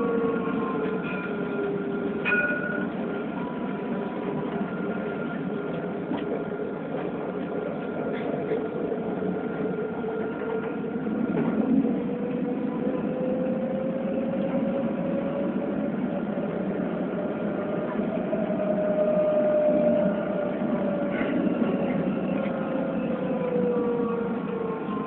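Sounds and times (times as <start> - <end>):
tram rolling drone: 0.0 - 25.0.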